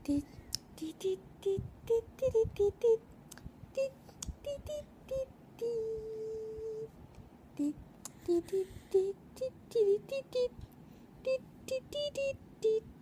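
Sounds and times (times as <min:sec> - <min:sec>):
person humming a tune: 0:00.0 - 0:06.9, 0:07.6 - 0:13.0.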